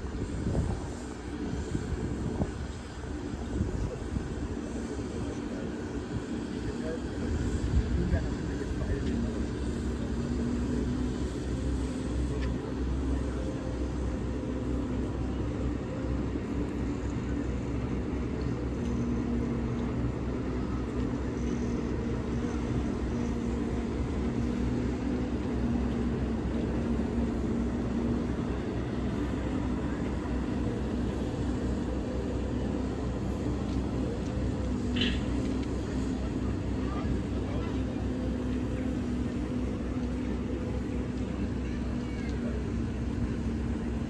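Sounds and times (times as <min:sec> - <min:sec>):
locomotive rumbling and humming: 0:00.0 - 0:44.0.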